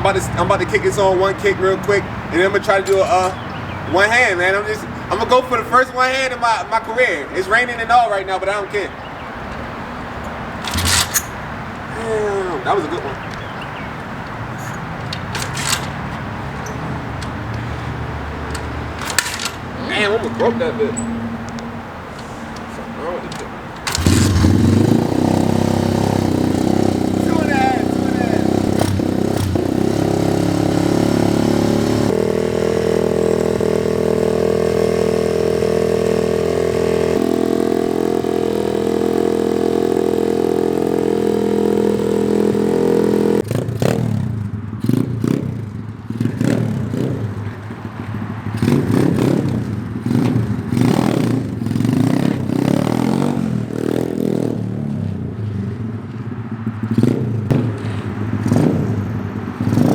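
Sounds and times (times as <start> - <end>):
motorcycle engine revving: 0.0 - 6.0, 9.1 - 59.9.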